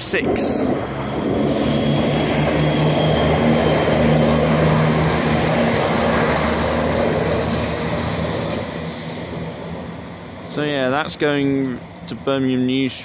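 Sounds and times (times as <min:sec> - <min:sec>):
diesel train engine drone: 0:00.0 - 0:13.0
wheels rumbling on rails: 0:00.0 - 0:13.0.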